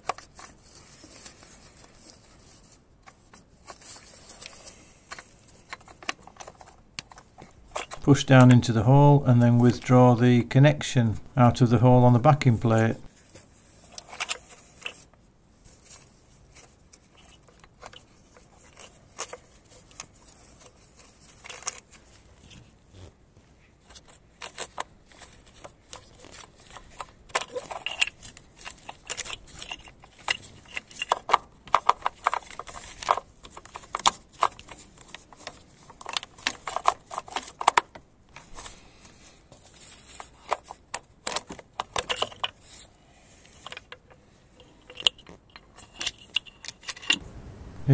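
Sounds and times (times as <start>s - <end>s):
cable rustling and scraping: 0.0s - 10.3s, 11.5s - 47.2s.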